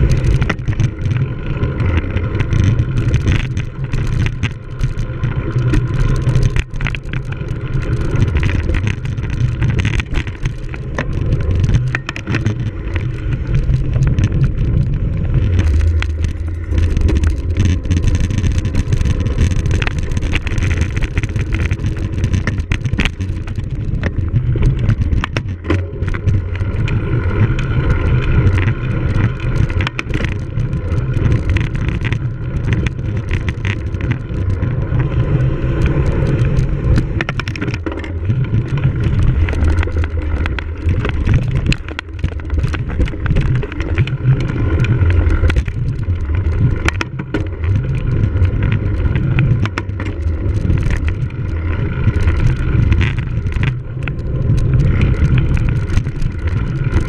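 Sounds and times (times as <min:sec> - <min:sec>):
bike rattling over bumps: 0:00.0 - 0:57.0
wind rumble on microphone: 0:00.0 - 0:57.0.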